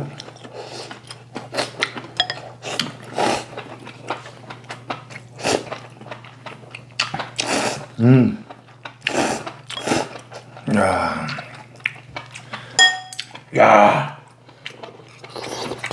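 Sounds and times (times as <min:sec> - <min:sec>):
steady low hum: 0:00.0 - 0:15.9
chewing: 0:00.2 - 0:10.7, 0:11.3 - 0:13.5, 0:14.3 - 0:15.9.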